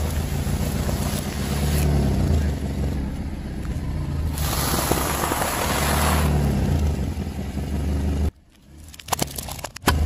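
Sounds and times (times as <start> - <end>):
car engine humming: 0.0 - 9.0.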